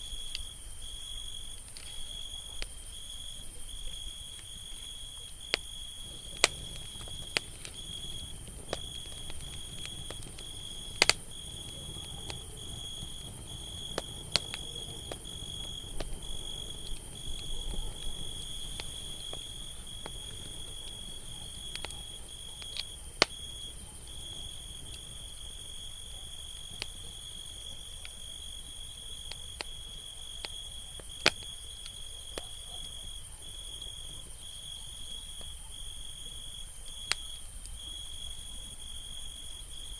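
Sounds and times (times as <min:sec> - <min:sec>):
cricket trill: 0:00.0 - 0:39.9
campfire crackling and popping: 0:00.2 - 0:39.9.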